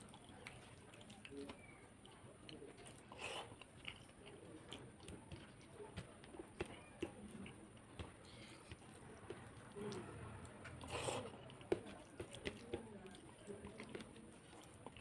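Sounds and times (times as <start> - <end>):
fingers squishing wet food: 0.0 - 15.0.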